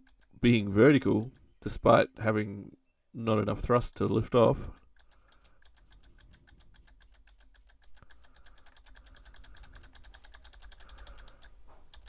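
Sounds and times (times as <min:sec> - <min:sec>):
faint rapid clicking: 0:00.0 - 0:01.8, 0:03.5 - 0:12.0.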